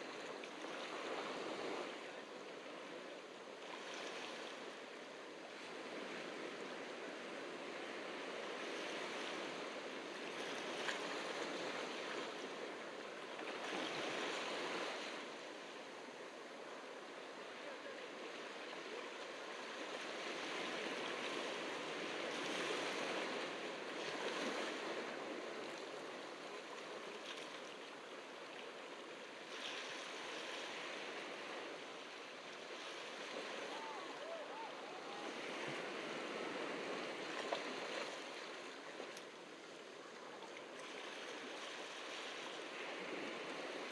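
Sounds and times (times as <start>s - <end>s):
ocean surf breaking on beach: 0.0s - 43.9s.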